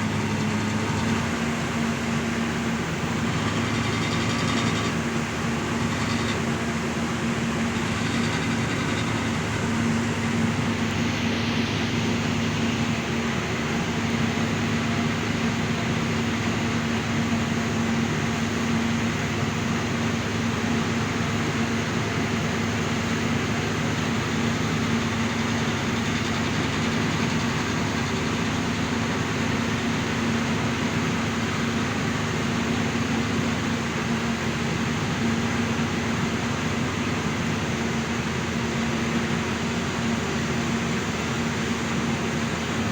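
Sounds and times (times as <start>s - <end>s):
engine running steadily: 0.0s - 42.9s.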